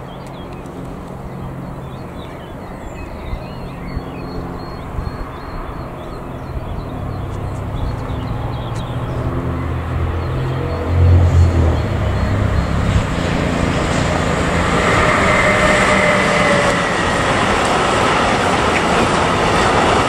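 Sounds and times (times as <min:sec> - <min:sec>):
birds chirping: 0:00.0 - 0:20.0
freight train rumble: 0:00.0 - 0:20.0.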